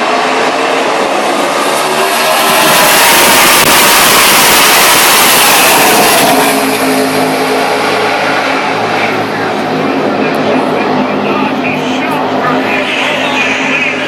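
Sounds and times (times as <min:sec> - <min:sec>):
race cars passing at full speed: 0:00.0 - 0:14.0.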